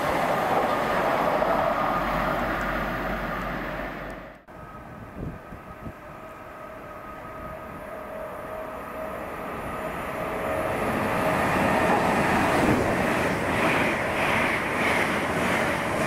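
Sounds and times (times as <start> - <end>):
train approaching: 0.0 - 16.0
wheel and rail noise: 0.0 - 16.0.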